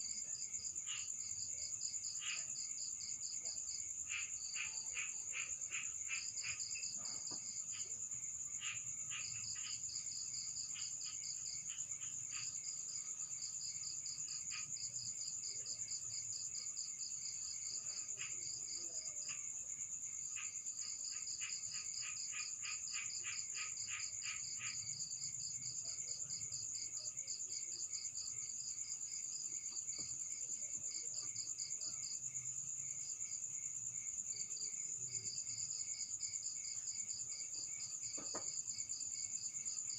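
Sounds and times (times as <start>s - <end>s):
insects chirping in trills: 0.0s - 39.9s.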